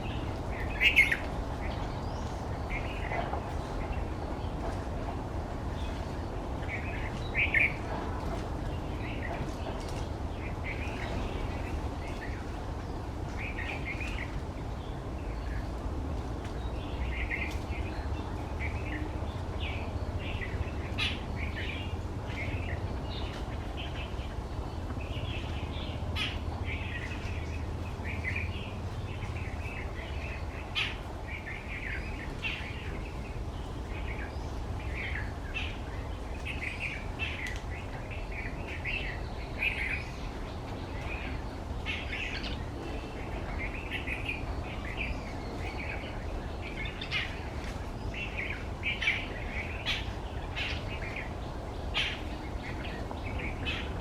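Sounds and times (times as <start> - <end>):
wild birds chirping: 0.0 - 54.0.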